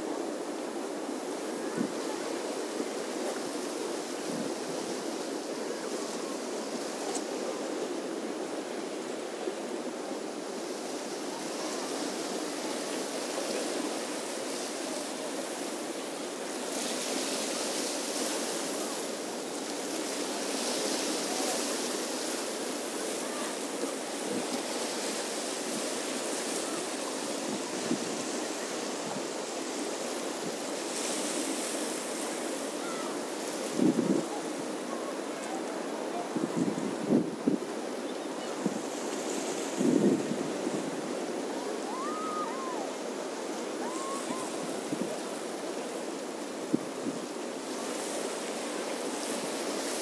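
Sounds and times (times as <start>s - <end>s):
sea waves washing on rocks: 0.0s - 38.0s, 38.6s - 50.0s.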